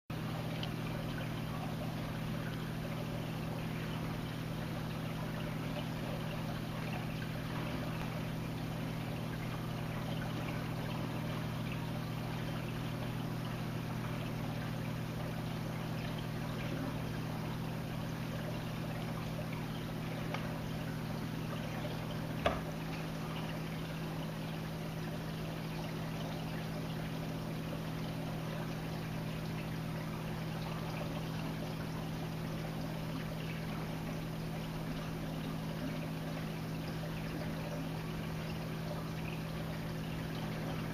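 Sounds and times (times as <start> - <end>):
aquarium pump hum: 0.1 - 40.9
water trickling: 0.1 - 40.9.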